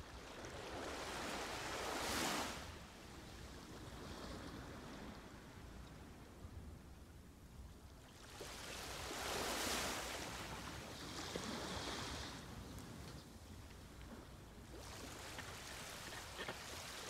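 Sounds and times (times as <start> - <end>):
sea waves breaking on shore: 0.0 - 6.4, 8.1 - 17.0.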